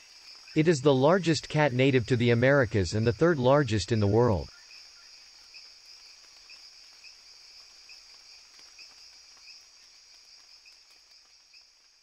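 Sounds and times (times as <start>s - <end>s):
insect chirping: 0.0s - 12.0s
insect drone: 0.0s - 12.0s.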